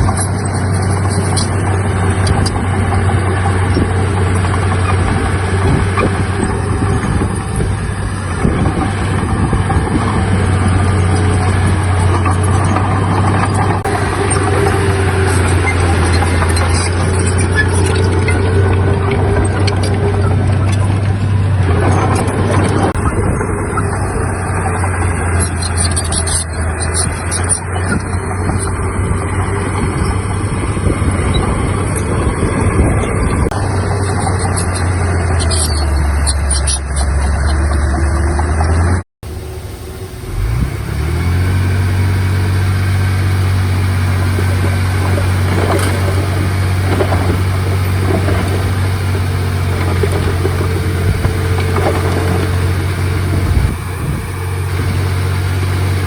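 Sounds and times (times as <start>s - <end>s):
diesel earthmoving machinery running: 0.0s - 56.0s
engine humming: 0.0s - 56.0s.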